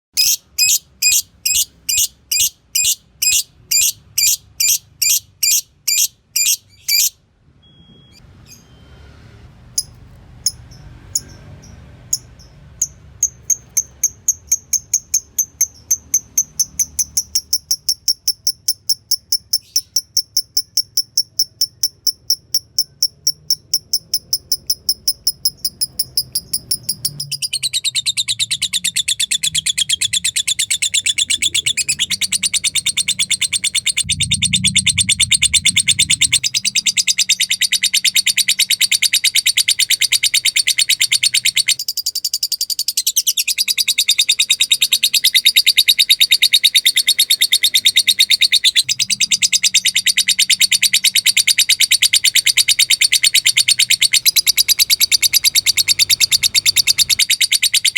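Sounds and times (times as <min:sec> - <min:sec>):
lovebird chirping and chattering: 0:00.2 - 0:07.2, 0:09.8 - 0:57.9.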